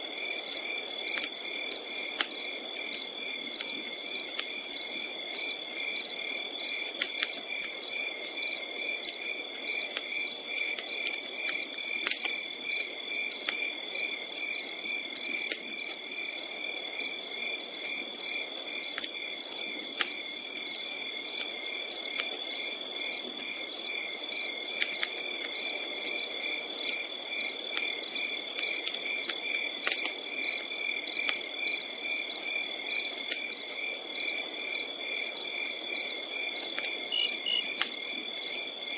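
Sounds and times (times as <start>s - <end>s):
campfire crackling: 0.0s - 38.9s
crickets chirping: 0.1s - 38.9s.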